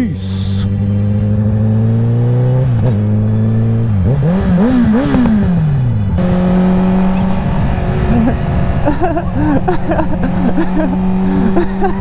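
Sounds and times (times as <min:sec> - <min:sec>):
motorcycle engine revving: 0:00.3 - 0:12.0.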